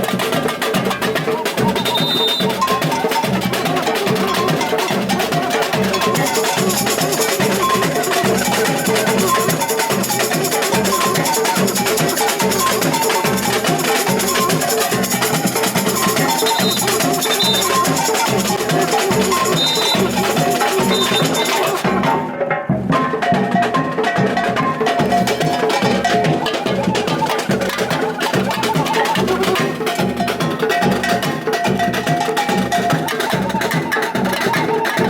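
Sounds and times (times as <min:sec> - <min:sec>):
deep bass drum beats: 0:00.0 - 0:33.6
samba percussion band: 0:00.0 - 0:35.0.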